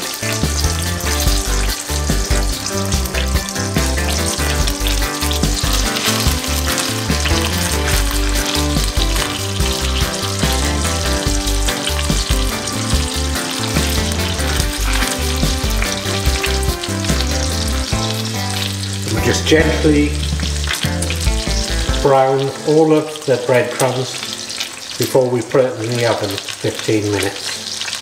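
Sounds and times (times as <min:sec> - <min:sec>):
background music: 0:00.0 - 0:28.0
food sizzling in hot oil: 0:00.0 - 0:28.0.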